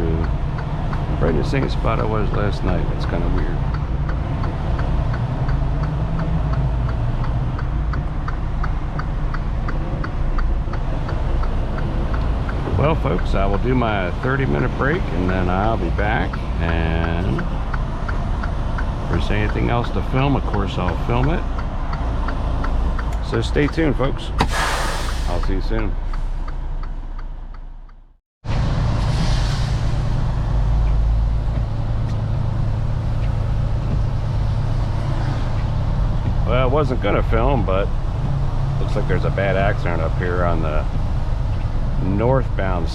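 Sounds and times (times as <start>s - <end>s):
steady ticking: 0.0s - 24.4s, 25.3s - 28.1s, 30.4s - 42.9s
diesel engine idling: 0.0s - 28.1s, 29.6s - 42.9s
road noise: 0.0s - 42.9s.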